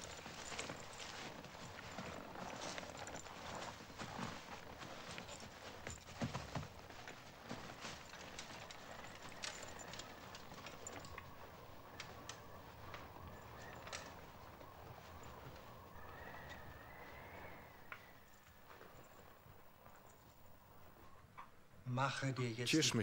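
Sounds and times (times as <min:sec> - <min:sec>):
footsteps in snow: 0:00.0 - 0:20.4.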